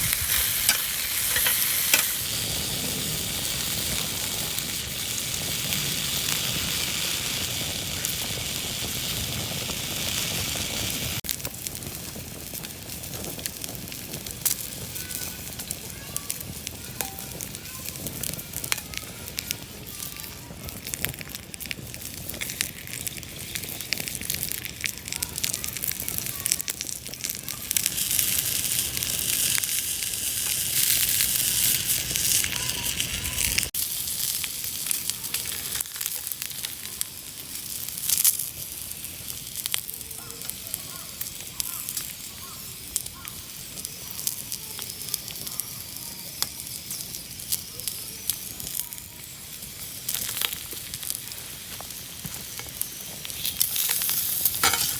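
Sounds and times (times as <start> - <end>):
sausages sizzling: 0.0 - 54.9
wood fire crackling: 0.0 - 54.9.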